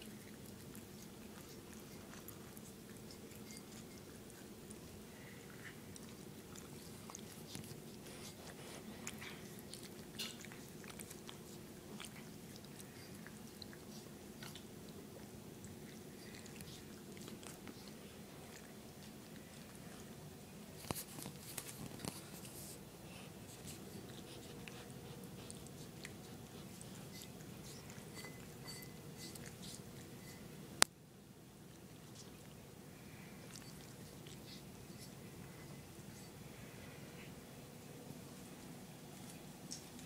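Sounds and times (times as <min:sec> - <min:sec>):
cats chewing wet food: 0:00.0 - 0:30.8, 0:31.4 - 0:40.0.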